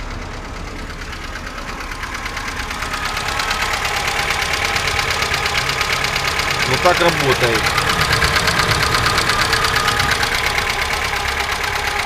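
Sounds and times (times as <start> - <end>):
car engine idling with metallic rattle: 0.0 - 12.0.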